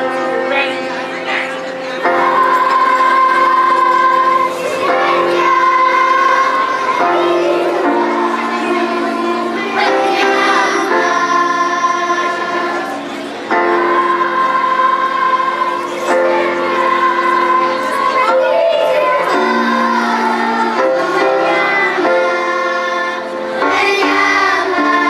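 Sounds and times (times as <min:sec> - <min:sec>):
children's chorus singing: 0:00.0 - 0:25.0
musical accompaniment: 0:00.0 - 0:25.0.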